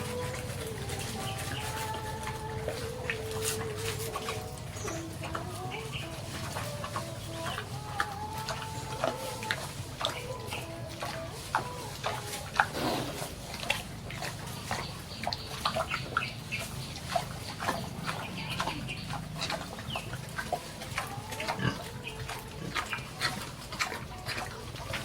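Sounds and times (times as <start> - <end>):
pigs grunting: 0.0 - 25.0.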